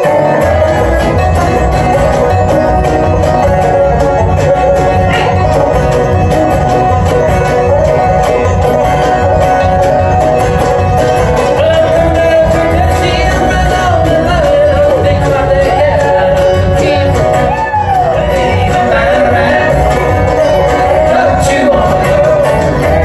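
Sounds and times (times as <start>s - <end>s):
bluegrass band playing: 0.0s - 23.0s.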